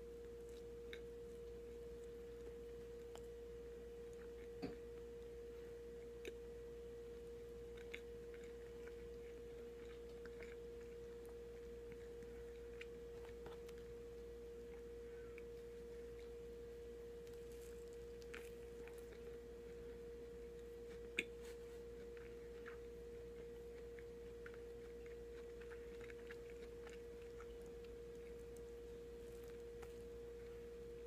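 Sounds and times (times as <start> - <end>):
chewing a sandwich: 0.0 - 31.0
steady single-tone hum: 0.0 - 31.0.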